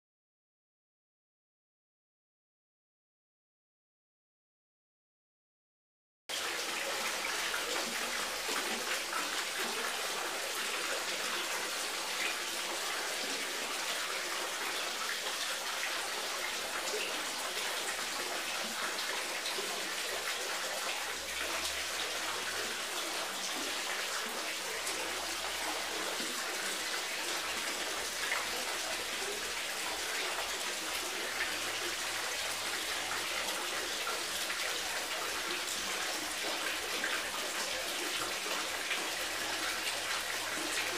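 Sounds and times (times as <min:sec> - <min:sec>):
water running and splashing: 0:06.3 - 0:40.9.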